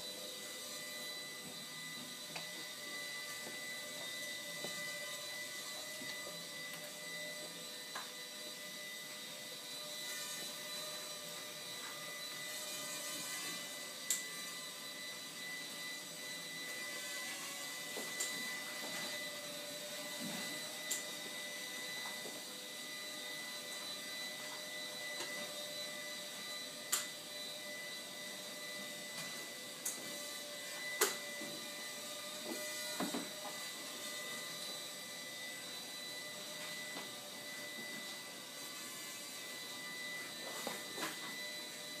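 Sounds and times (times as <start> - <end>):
small electric motors whining: 0.0 - 42.0.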